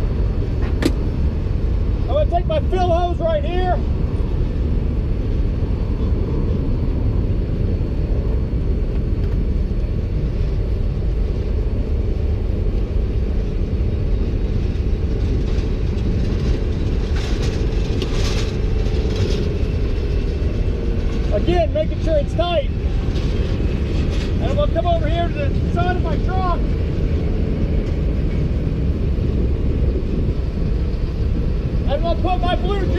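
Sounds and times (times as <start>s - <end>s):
low engine rumble: 0.0s - 32.9s.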